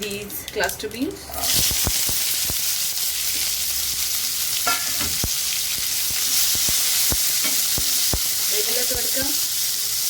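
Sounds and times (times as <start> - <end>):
beans sizzling in hot oil: 1.3 - 10.0.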